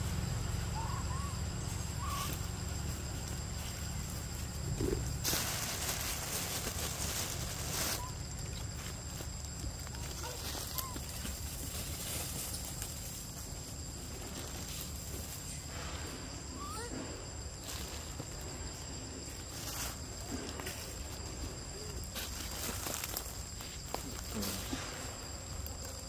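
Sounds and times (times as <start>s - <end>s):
high insect drone: 0.0s - 26.0s
rustles in dry leaves: 0.0s - 26.0s.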